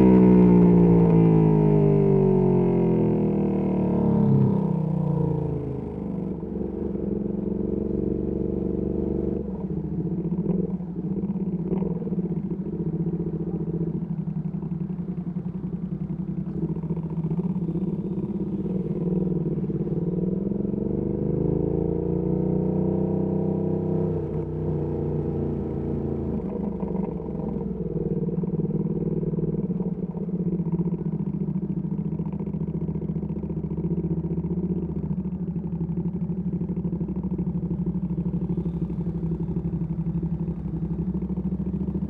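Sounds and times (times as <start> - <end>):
motorcycle engine at low revs: 0.0 - 42.0.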